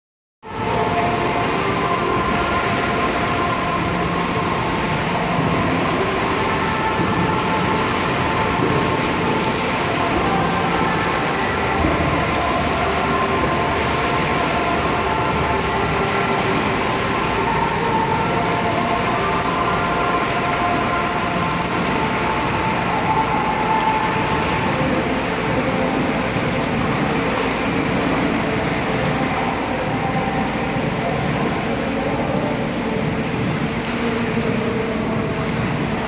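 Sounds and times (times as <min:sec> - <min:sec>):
swimmers splashing water: 0:00.5 - 0:36.0.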